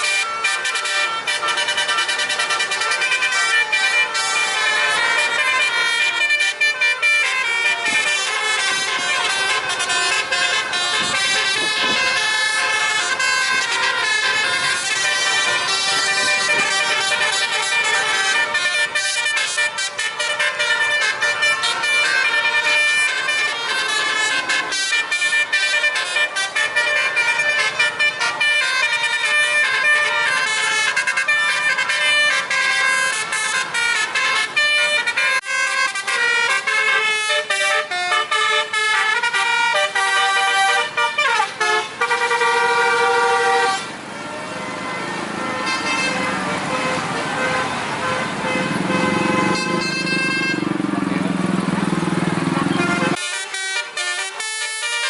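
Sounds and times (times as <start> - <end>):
musical air horns playing tunes: 0.0 - 50.8, 52.6 - 55.0
traffic noise: 0.0 - 55.0.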